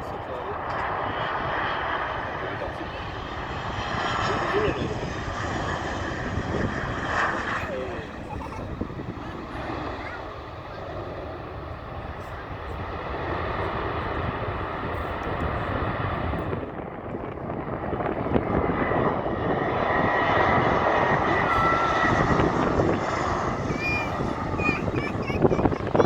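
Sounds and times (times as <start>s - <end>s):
high engine whine: 0.0s - 26.0s
jet engines rushing: 0.0s - 26.0s.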